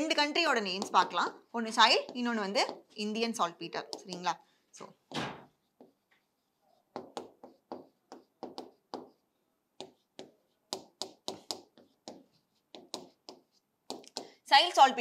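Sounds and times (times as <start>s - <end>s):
marker pen writing on board: 0.4s - 4.4s, 5.5s - 14.4s.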